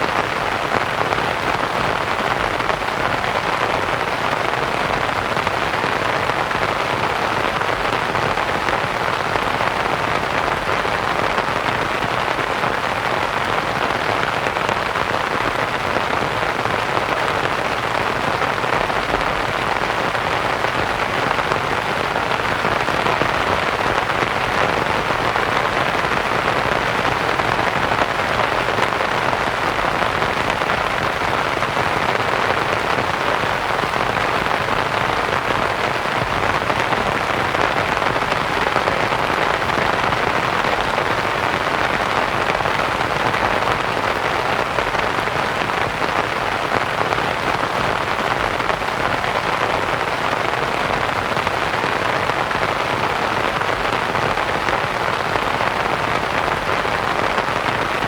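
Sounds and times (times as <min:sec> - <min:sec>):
rain on a canvas tent: 0:00.0 - 0:58.0.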